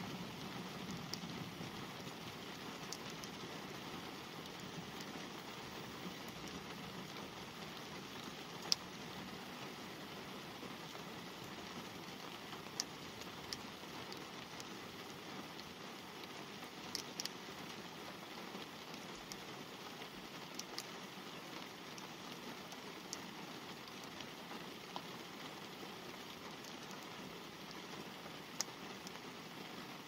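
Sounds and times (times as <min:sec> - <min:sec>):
rain hissing on car: 0:00.0 - 0:30.0.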